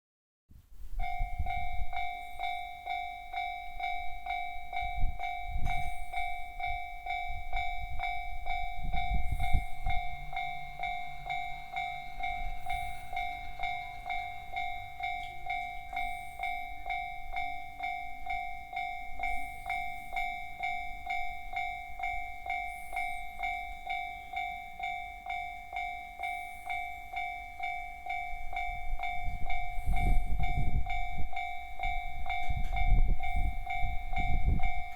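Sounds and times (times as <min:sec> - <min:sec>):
level crossing alarm dinging: 0:01.0 - 0:34.9.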